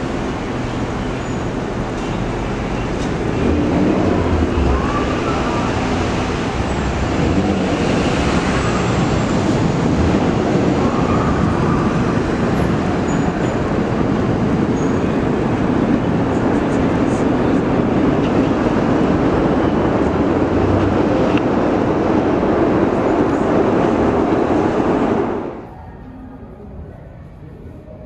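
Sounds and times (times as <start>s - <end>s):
train wheels rumbling on rail: 0.0s - 25.7s.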